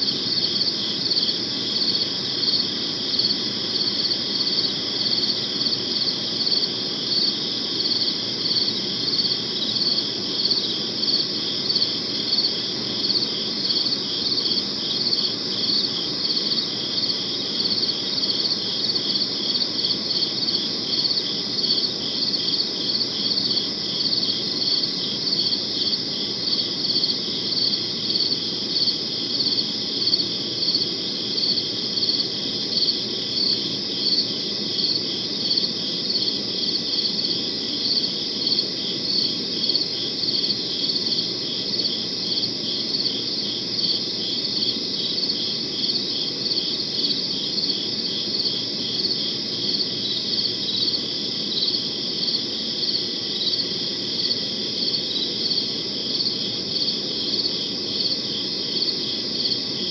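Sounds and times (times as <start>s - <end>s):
crickets chirping: 0.0s - 59.9s
pulsing cricket chirp: 0.0s - 59.9s.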